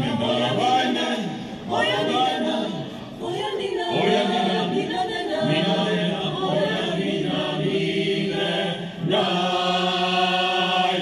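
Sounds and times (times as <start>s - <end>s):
choir singing a cappella: 0.0s - 11.0s.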